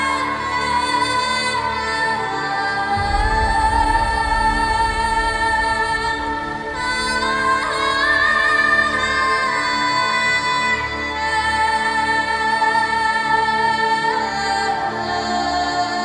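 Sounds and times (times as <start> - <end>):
person singing: 0.0 - 16.0
ambient music chords: 2.1 - 15.0.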